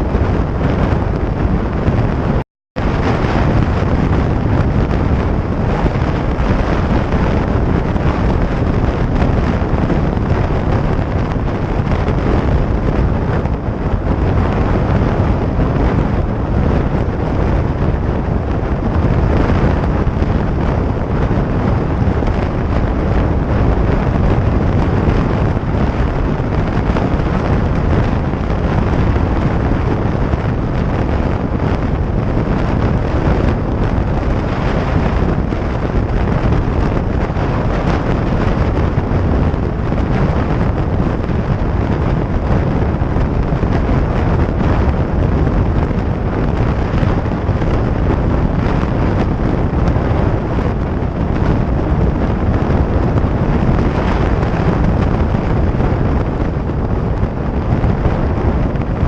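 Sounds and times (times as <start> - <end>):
motorcycle engine and road noise: 0.0 - 59.0
wind buffeting microphone: 0.0 - 59.0.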